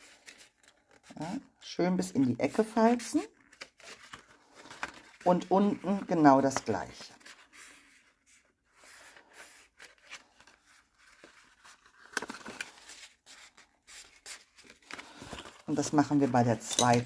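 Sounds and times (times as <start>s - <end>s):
paper rustling and crinkling: 0.0s - 1.5s, 2.6s - 17.0s.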